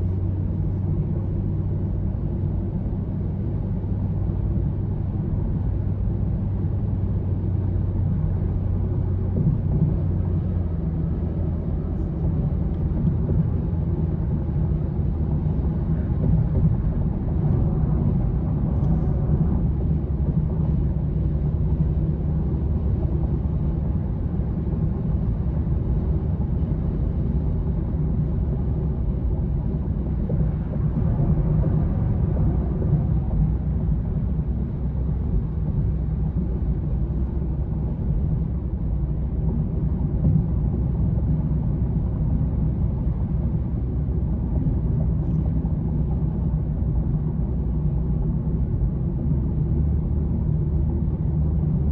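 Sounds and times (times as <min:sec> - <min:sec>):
low rumble of road traffic: 0:00.0 - 0:51.9.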